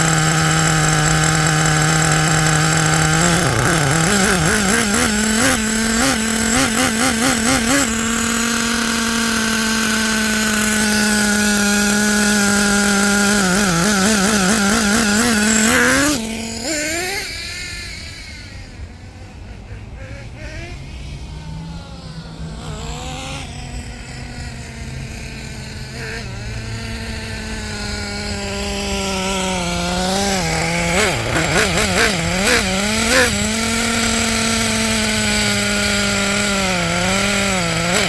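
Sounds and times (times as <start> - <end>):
nitro engine revving: 0.0 - 38.0.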